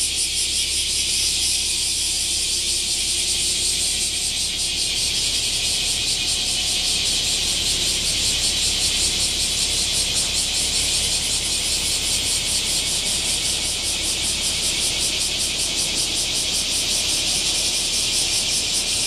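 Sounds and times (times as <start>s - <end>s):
cicadas buzzing: 0.0s - 19.0s
distant road traffic rumble: 0.0s - 19.0s.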